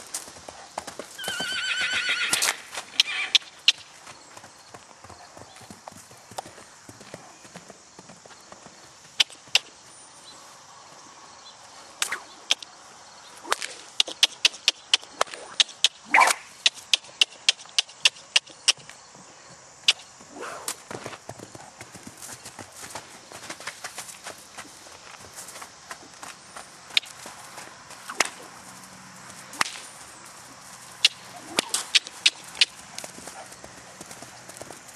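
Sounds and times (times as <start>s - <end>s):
horse hoofbeats: 0.0s - 9.9s, 13.5s - 34.9s.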